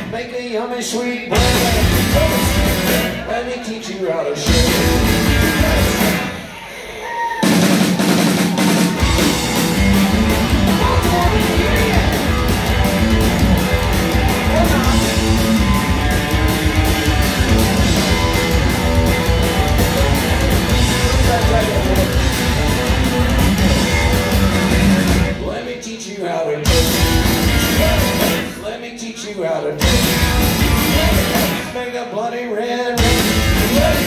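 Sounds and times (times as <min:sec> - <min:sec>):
rockabilly band playing live: 0:01.2 - 0:06.7, 0:07.4 - 0:32.3, 0:32.9 - 0:34.0.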